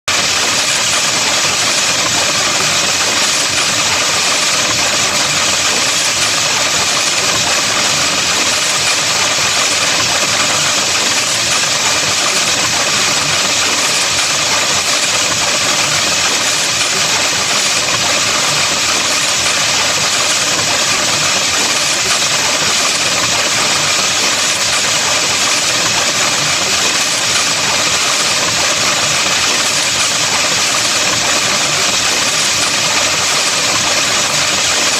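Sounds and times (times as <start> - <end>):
loud electronic buzzing drone: 0.1 - 34.9.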